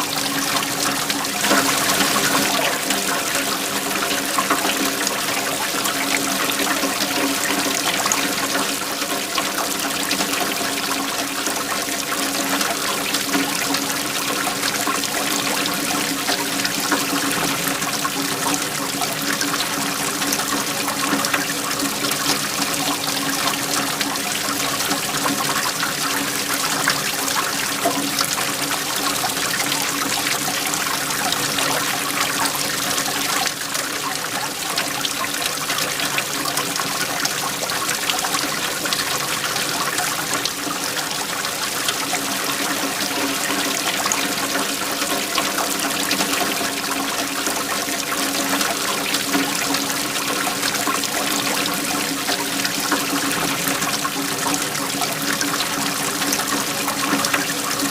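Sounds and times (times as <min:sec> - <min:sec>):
waterfall pouring: 0:00.0 - 0:57.9.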